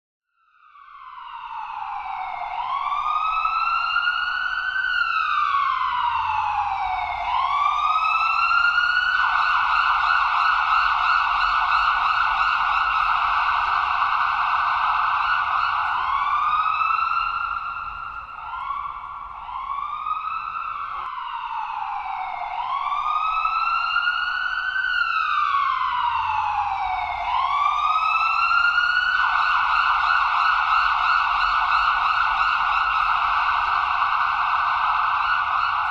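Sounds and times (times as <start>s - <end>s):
ambulance siren wailing: 0.5s - 35.9s.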